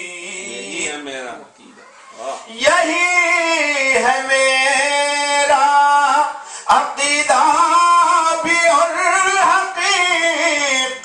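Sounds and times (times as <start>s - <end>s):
man singing unaccompanied: 0.0s - 1.2s, 2.4s - 11.0s.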